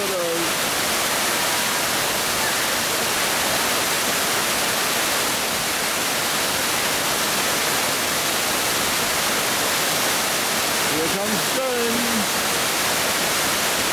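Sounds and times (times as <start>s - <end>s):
waterfall roaring: 0.0s - 13.9s.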